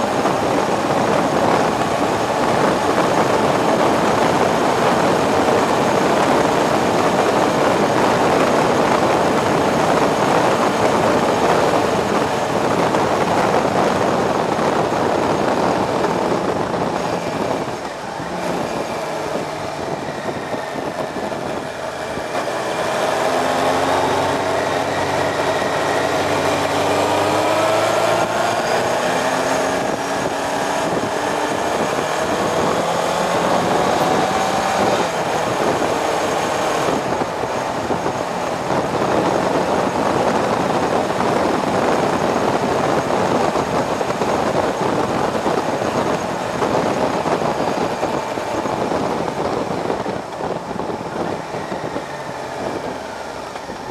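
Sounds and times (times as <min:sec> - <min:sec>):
motorcycle engine accelerating: 0:00.0 - 0:53.9
rushing wind and road noise: 0:00.0 - 0:53.9.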